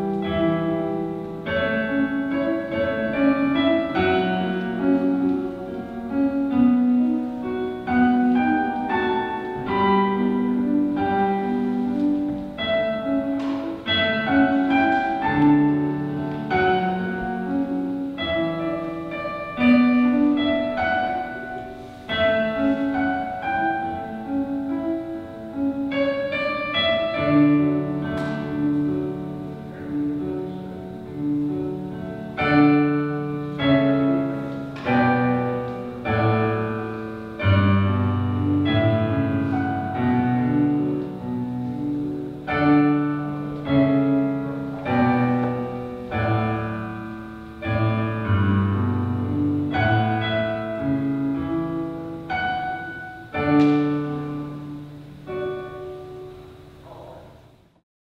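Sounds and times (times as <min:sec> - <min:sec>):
slow solo piano chords: 0:00.0 - 0:57.8.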